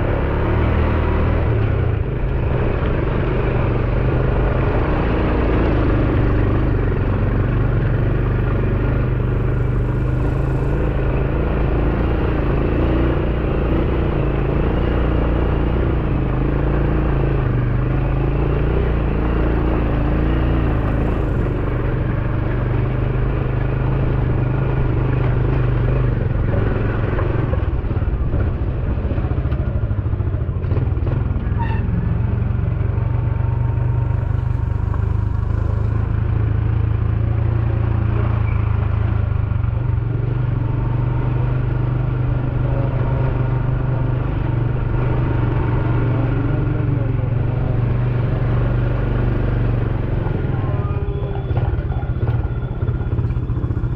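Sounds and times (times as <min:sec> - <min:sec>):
small motorbike engine running: 0:00.0 - 0:31.8, 0:41.3 - 0:53.9.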